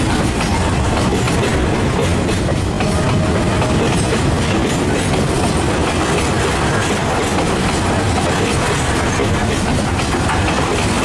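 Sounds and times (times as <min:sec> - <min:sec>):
train wheels rumbling on rails: 0:00.0 - 0:11.0
wheels clacking over rail joints: 0:00.0 - 0:11.0.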